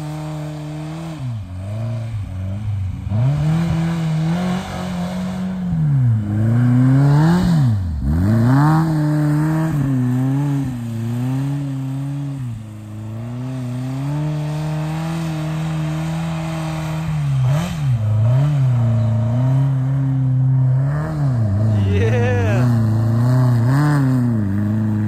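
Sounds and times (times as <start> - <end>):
van engine revving: 0.0 - 25.0.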